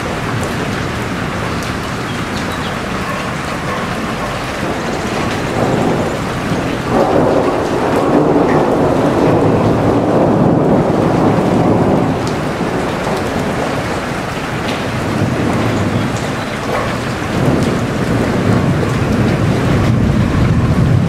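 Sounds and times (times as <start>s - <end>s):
heavy rain: 0.0s - 21.0s
low rolling rumble: 0.0s - 21.0s.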